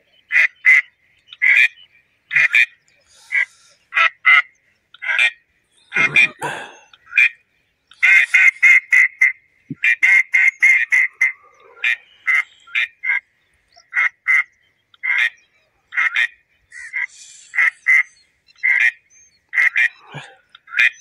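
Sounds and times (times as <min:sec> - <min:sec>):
duck quacking: 0:00.3 - 0:07.4, 0:08.0 - 0:13.2, 0:13.9 - 0:19.0, 0:19.6 - 0:21.0.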